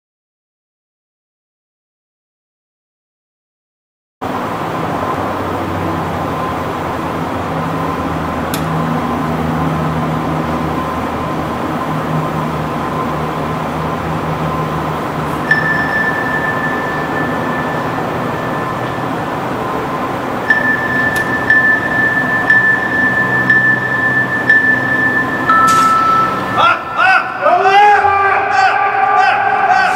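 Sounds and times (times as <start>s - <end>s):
steady hall hum: 4.2s - 29.9s
steady high tone: 4.3s - 29.2s.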